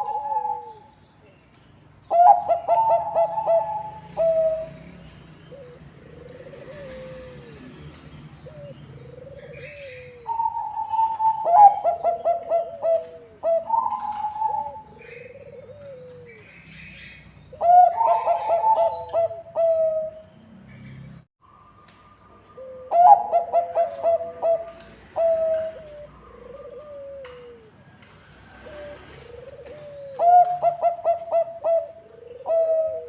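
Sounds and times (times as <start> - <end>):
doves cooing: 0.0 - 20.3, 22.4 - 33.0.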